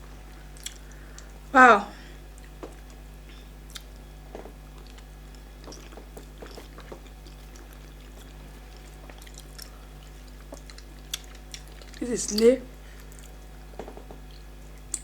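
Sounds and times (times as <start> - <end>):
low electrical hum: 0.0 - 15.0
wet chewing sounds: 0.5 - 1.4, 2.3 - 15.0.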